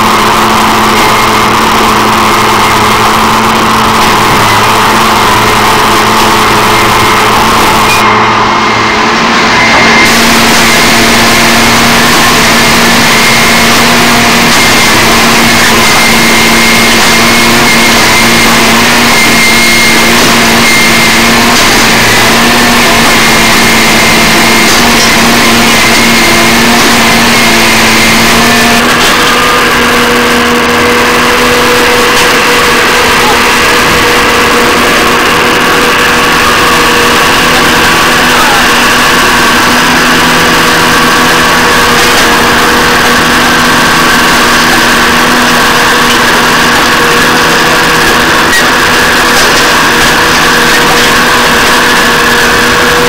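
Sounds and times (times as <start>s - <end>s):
high whine: 0.0s - 53.0s
machine engine and hydraulics humming: 0.0s - 53.0s.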